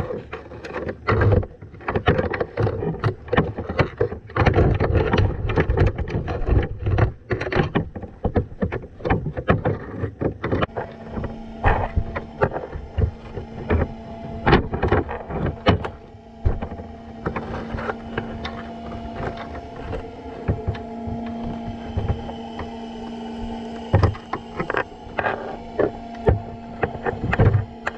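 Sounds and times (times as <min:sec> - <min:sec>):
muffled underwater knocks and clicks: 0:00.0 - 0:27.9
steady low hum: 0:00.0 - 0:27.9.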